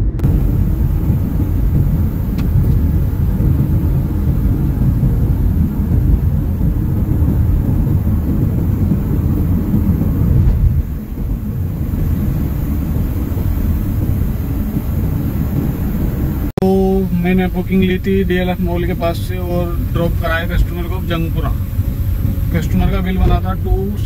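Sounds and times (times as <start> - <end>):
car driving heard from cabin: 0.0 - 24.0.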